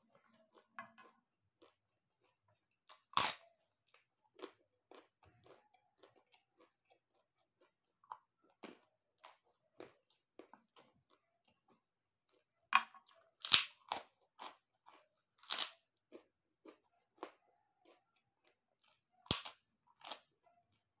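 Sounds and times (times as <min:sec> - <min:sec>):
pork rinds crunching: 0:00.2 - 0:20.4.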